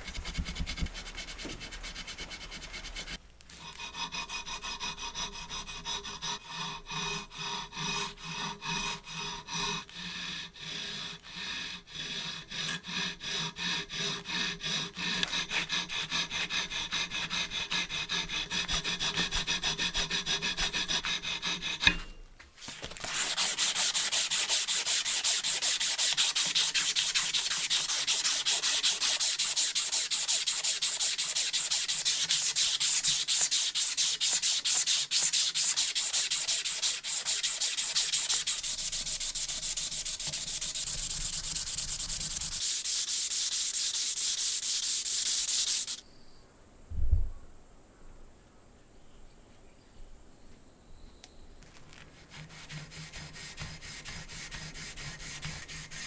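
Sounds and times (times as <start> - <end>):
sanding scratchy rasp: 0.0 - 22.1, 22.7 - 46.0, 52.0 - 56.0.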